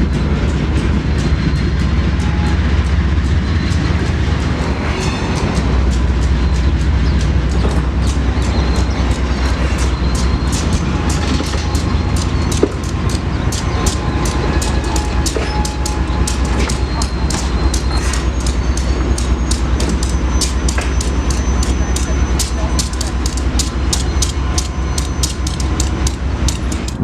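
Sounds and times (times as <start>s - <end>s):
freight train rumbling by: 0.0s - 27.0s
wheels clicking over rail joints: 0.0s - 27.0s.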